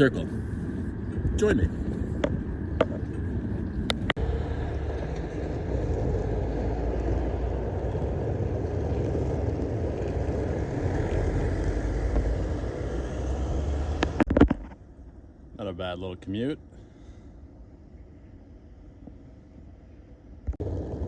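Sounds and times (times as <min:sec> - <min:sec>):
vehicle rumbling in motion: 0:00.0 - 0:15.6, 0:16.6 - 0:21.0.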